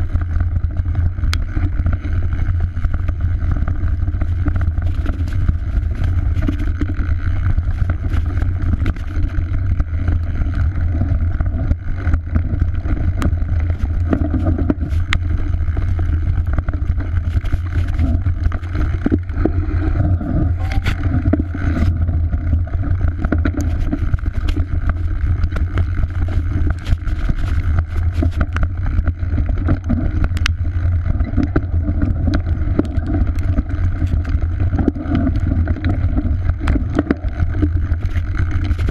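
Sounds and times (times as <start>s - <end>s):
bike clicks and rattles: 0.0s - 38.9s
wind and tyre rumble: 0.0s - 38.9s.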